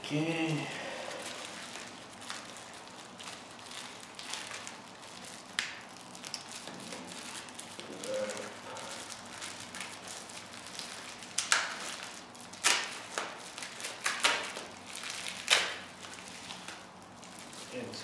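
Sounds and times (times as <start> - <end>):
bubble-wrap pouch crinkling: 0.1 - 18.0
sharp crackles: 0.4 - 18.0.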